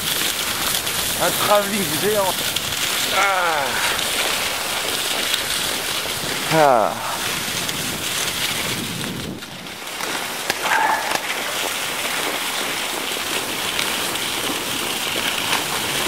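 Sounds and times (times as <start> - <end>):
skis sliding over snow: 0.0 - 16.0.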